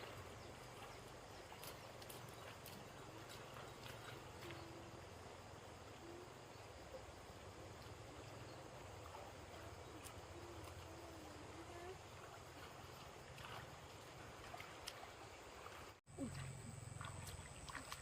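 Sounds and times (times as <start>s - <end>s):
water sloshing: 0.0s - 6.2s, 7.2s - 18.0s
faint outdoor background noise: 0.0s - 18.0s.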